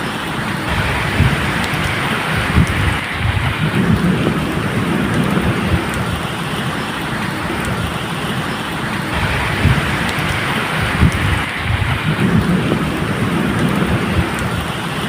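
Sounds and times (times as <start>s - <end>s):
rain falling steadily: 0.0s - 15.0s
distant thunder rumble: 0.3s - 15.0s.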